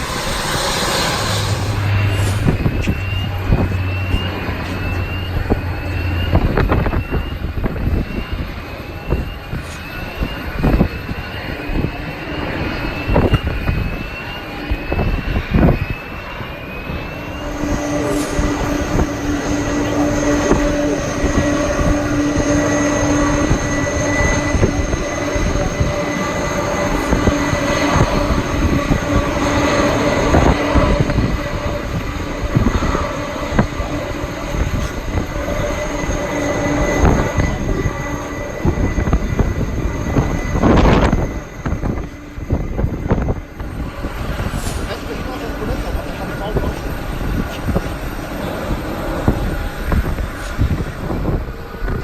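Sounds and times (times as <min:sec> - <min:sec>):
jet engines whining: 0:00.0 - 0:52.0
wind buffeting microphone: 0:00.0 - 0:52.0.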